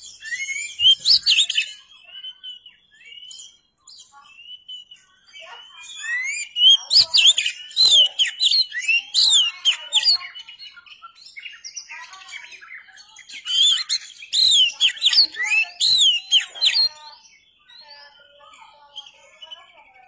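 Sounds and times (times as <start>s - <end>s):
bird singing whistled phrases: 0.0s - 20.0s
soft bird twittering: 0.0s - 20.0s.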